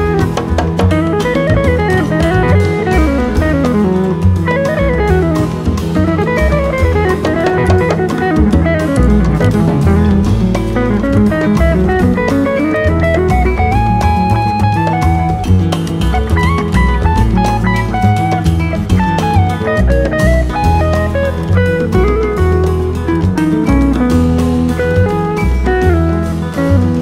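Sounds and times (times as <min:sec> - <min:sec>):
bass line: 0:00.0 - 0:27.0
drum kit: 0:00.0 - 0:27.0
guitar: 0:00.0 - 0:27.0.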